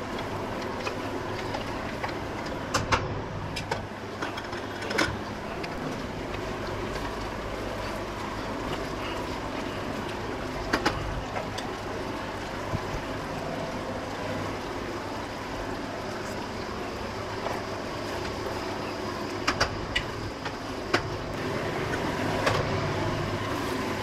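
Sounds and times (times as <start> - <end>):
steady kitchen hum: 0.0 - 24.0.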